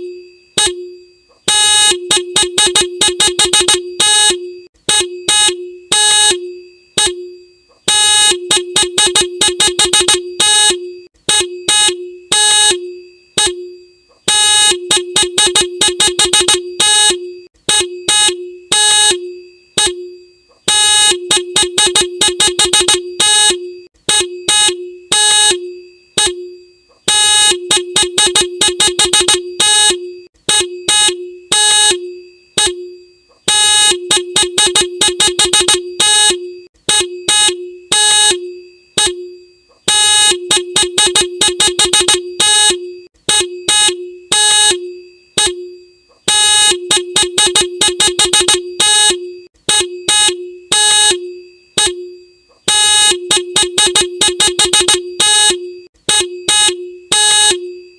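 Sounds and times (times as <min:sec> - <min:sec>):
motorcycle horn honking: 0:00.0 - 0:52.1, 0:52.7 - 0:57.9.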